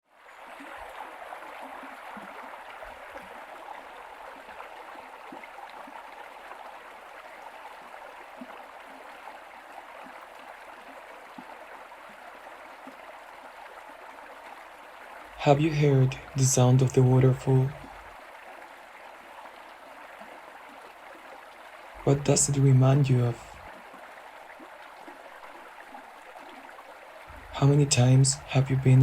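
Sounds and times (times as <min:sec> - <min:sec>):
running water: 0:00.1 - 0:29.0.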